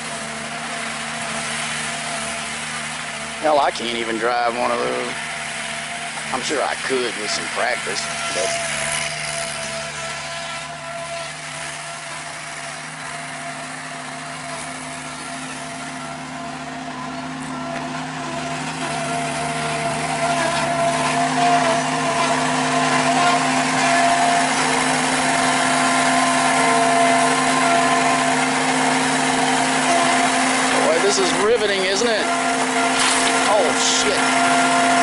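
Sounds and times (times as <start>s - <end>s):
loader engine running: 0.0s - 35.0s.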